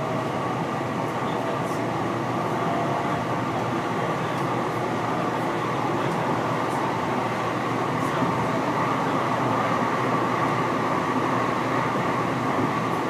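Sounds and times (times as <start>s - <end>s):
freight train passing: 0.0s - 13.0s
passenger train running: 0.0s - 13.0s.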